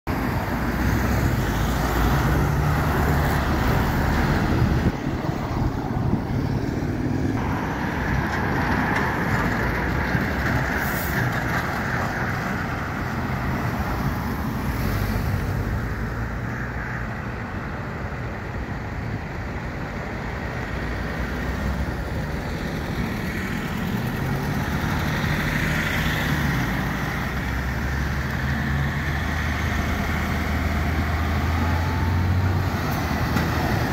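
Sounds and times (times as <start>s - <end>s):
cars passing: 0.1s - 33.9s
truck engines droning: 0.1s - 33.9s.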